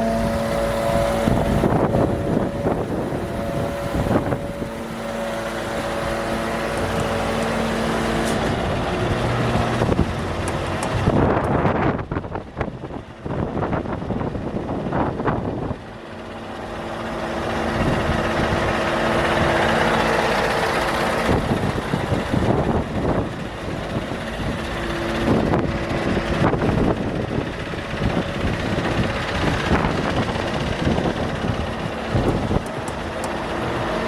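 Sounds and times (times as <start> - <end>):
truck diesel engine running: 0.0 - 34.0
wind buffeting microphone: 0.0 - 34.0.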